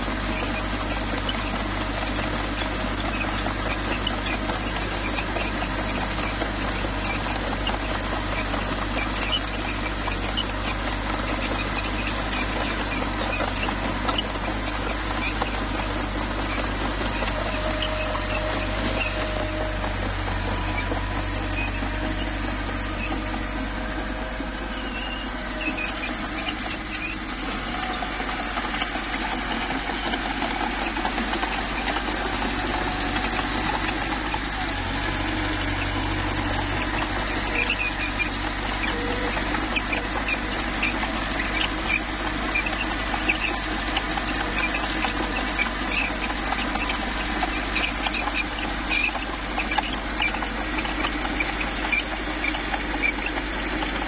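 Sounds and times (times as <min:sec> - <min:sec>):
bulldozer engine running: 0:00.0 - 0:54.0
squeaks and clicks from tracks: 0:00.0 - 0:54.0.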